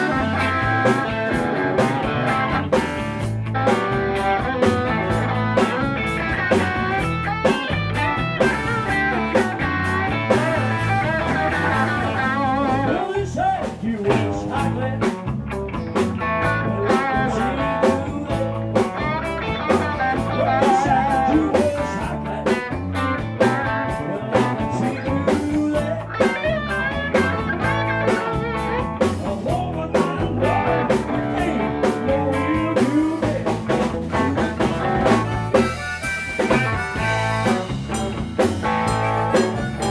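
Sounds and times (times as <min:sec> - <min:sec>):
bass guitar: 0:00.0 - 0:39.9
electric guitar with bent notes: 0:00.0 - 0:39.9
steady drum beat: 0:00.0 - 0:39.9.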